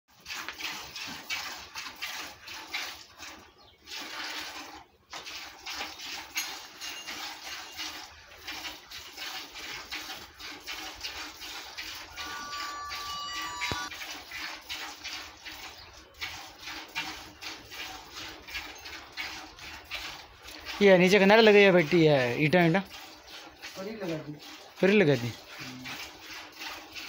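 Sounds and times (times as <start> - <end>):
milk squirting into a bucket: 0.1 - 12.2, 13.9 - 27.0.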